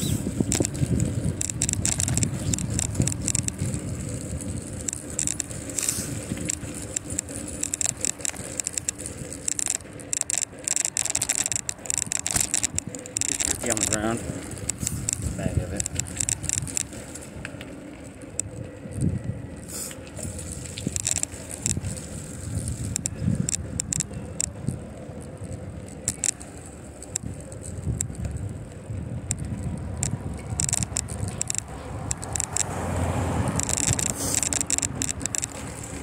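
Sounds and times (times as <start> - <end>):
bicycle rattling over bumps: 0.0 - 36.0
wind and rolling tyres rumble: 0.0 - 36.0.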